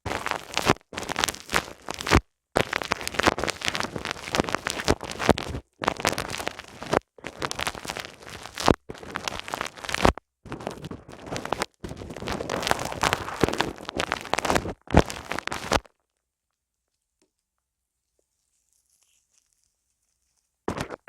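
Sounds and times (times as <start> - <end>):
rubbing and scratching on microphone: 0.0 - 15.9, 18.0 - 21.0.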